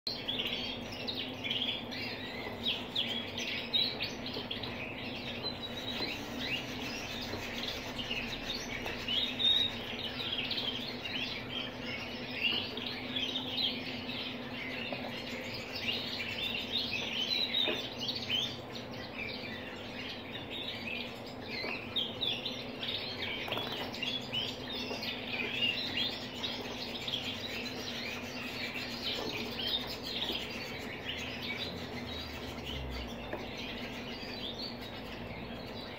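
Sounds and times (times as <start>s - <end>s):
canaries singing: 0.1s - 35.9s.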